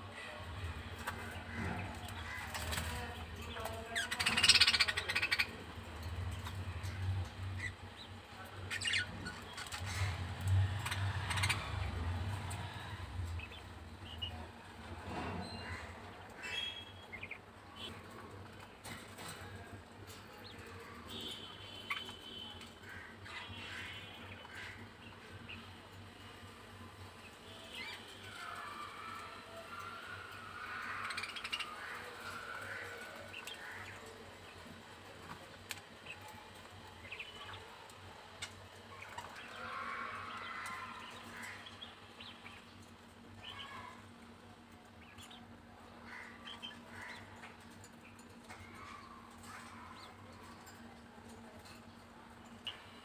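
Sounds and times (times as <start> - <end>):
birds chirping and twittering: 0.0 - 53.0.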